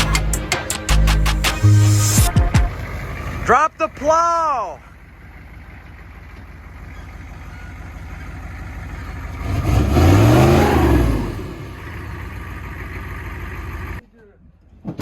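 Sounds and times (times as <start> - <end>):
truck engine revving: 0.0 - 14.0
truck engine rumbling: 0.0 - 15.0.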